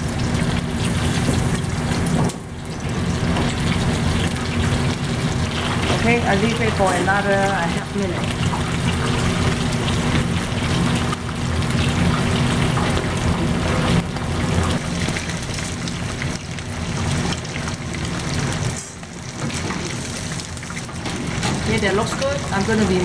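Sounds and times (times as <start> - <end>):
oil sizzling and crackling: 0.0 - 23.0.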